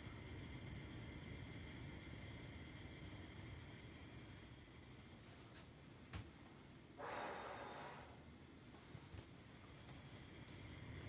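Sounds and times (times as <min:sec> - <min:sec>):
gas burner flame hissing: 0:00.0 - 0:11.0.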